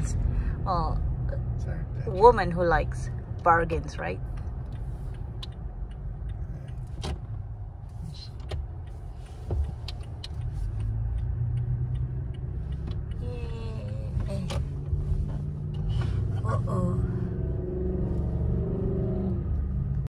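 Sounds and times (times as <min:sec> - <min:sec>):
car engine and tyres rumble: 0:00.0 - 0:20.0.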